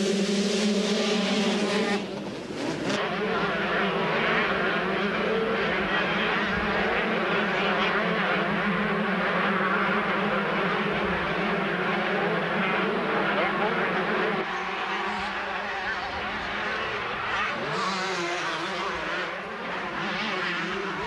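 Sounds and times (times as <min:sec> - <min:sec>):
motocross bikes revving hard: 0:00.0 - 0:21.0.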